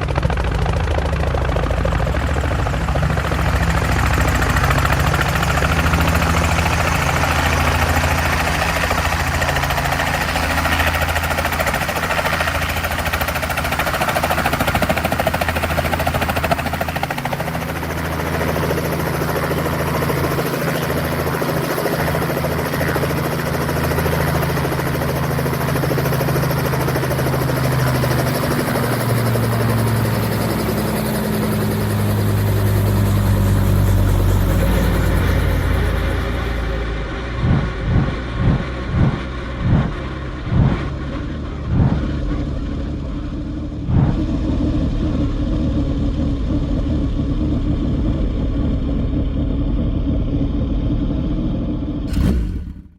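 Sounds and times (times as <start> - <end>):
helicopter engine and rotors droning: 0.0 - 52.9.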